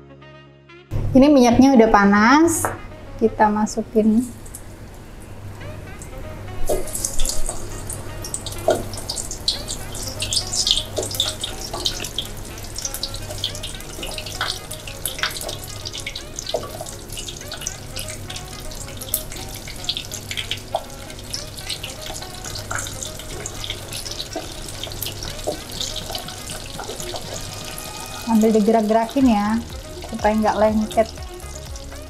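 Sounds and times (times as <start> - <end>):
food deep-frying in bubbling oil: 4.2 - 32.0.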